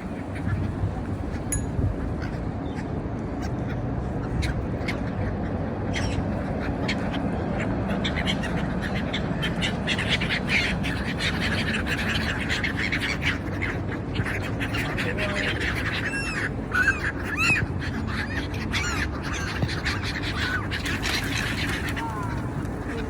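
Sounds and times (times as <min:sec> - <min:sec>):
low background rumble: 0:00.0 - 0:23.0
seagulls squawking: 0:00.0 - 0:23.0.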